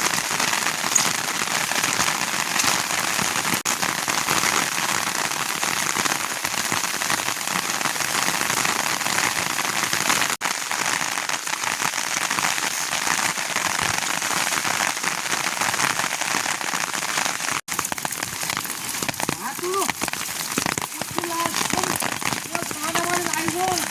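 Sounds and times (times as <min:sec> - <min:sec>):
heavy rain falling: 0:00.0 - 0:23.9.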